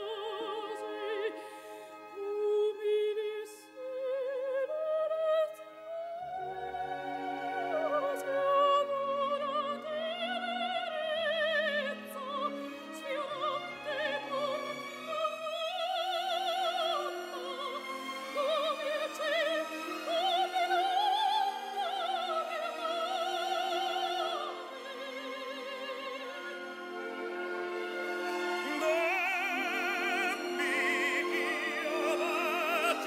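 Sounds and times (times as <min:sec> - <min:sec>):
operatic soprano singing: 0:00.0 - 0:33.0
orchestral accompaniment: 0:00.0 - 0:33.0.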